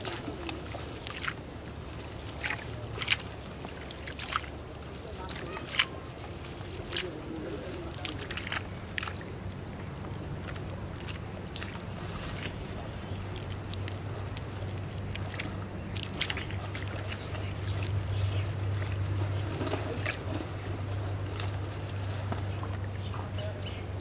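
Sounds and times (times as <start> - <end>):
scattered crackles: 0.0 - 20.2
steady low hum: 0.0 - 24.0
water sloshing and splashing: 0.0 - 24.0.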